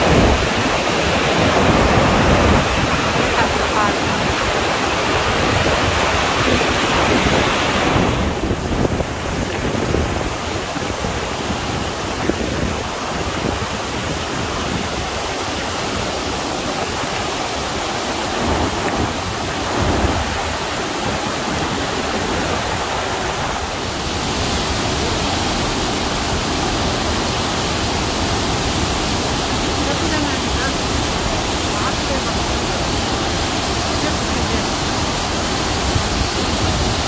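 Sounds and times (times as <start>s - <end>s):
waterfall rushing: 0.0s - 37.0s
wind buffeting microphone: 0.0s - 37.0s.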